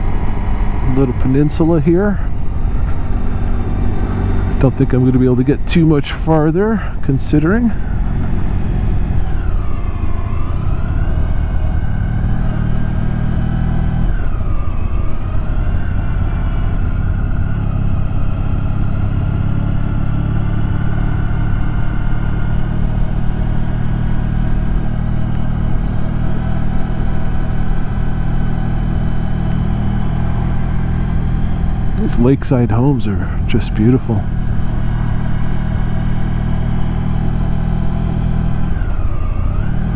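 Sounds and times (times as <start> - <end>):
motorcycle engine running: 0.0 - 14.5, 15.3 - 39.9.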